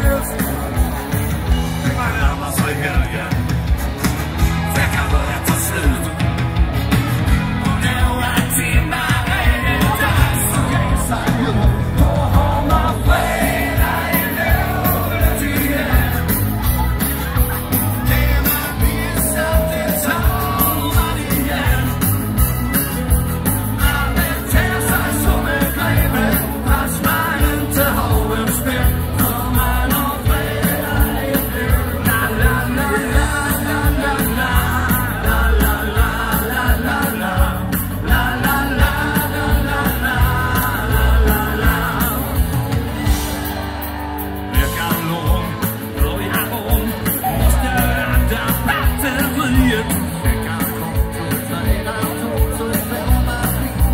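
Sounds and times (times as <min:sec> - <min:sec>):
live band music over speakers: 0:00.0 - 0:53.9.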